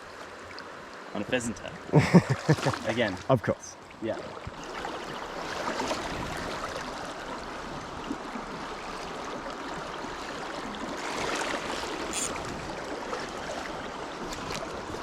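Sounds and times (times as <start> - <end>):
river water over stones: 0.0 - 15.0.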